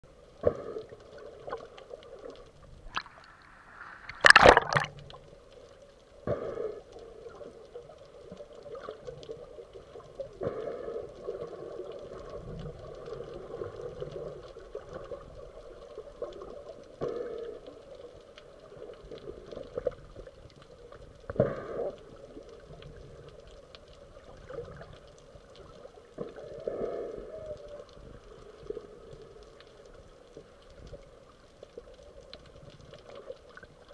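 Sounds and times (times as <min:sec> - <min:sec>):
underwater gurgling water: 0:00.1 - 0:33.9.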